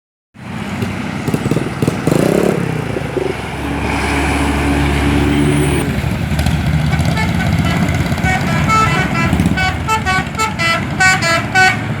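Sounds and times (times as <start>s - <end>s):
bus engine revving: 0.4s - 12.0s.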